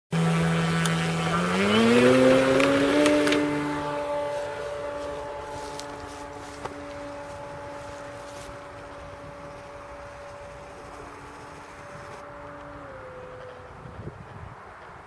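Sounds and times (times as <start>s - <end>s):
model plane motor whining: 0.2s - 14.8s.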